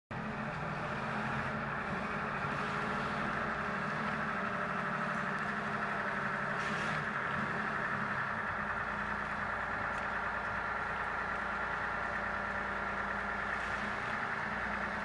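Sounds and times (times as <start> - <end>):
diesel engine running at low revs: 0.1 - 15.0
vehicle tracks creeping: 0.1 - 15.0.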